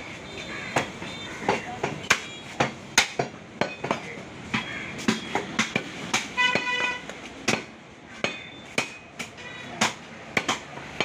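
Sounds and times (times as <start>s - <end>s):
cleaver chopping meat on wood: 0.7s - 11.0s.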